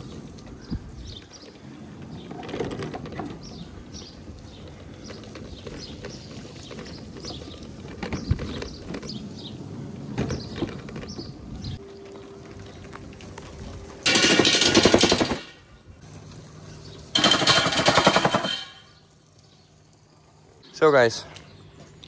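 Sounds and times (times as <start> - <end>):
mobility scooter driving over bumps: 0.0 - 18.8
birds chirping: 0.0 - 22.0.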